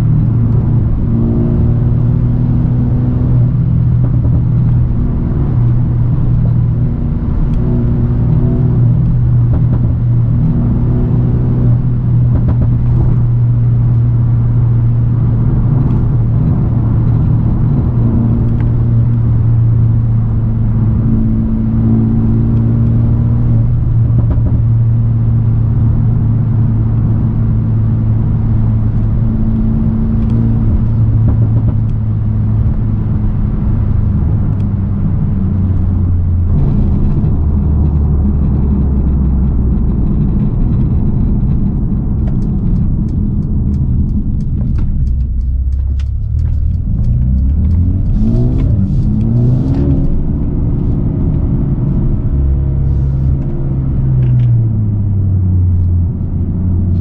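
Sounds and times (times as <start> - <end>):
car engine cruising: 0.0 - 57.0
road noise: 0.0 - 57.0.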